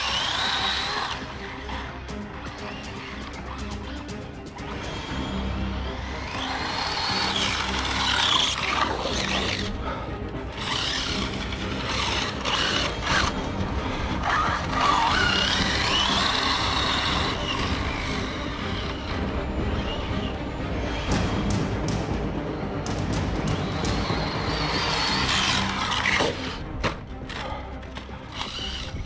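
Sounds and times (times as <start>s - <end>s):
electric motor whining: 0.0s - 4.0s, 4.6s - 9.8s, 10.5s - 21.1s, 23.5s - 26.6s, 28.2s - 29.0s.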